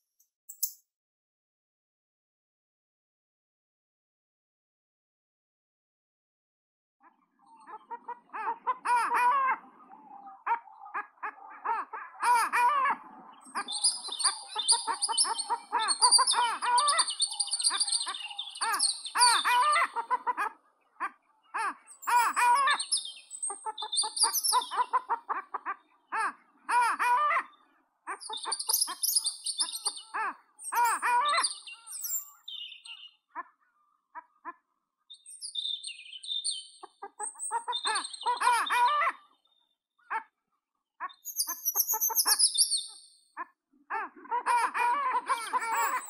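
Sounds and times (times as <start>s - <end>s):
wild birds singing and calling: 7.0s - 40.4s, 41.0s - 46.0s.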